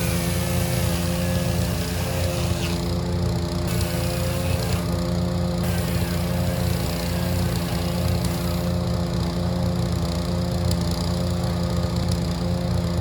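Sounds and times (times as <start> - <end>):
wood chipper running: 0.0 - 13.0
wood cracking in cutter: 0.0 - 13.0.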